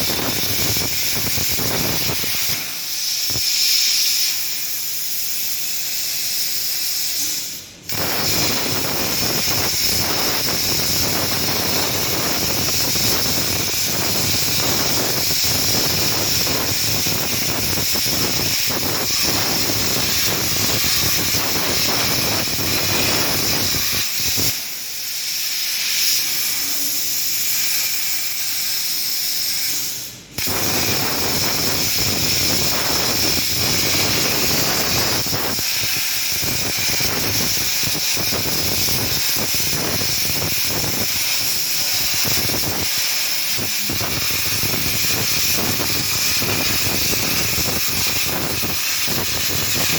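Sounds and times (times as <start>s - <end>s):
plasma cutting torch hissing: 0.0s - 49.9s.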